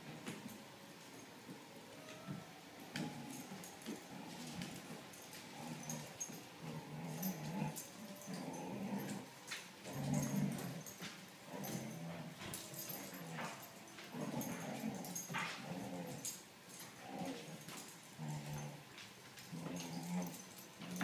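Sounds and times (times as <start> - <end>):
dogs growling in play: 2.8 - 21.0.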